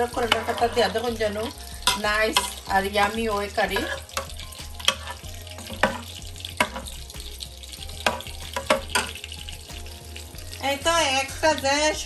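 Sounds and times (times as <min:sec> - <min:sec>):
curry cooking hiss: 0:00.0 - 0:12.0.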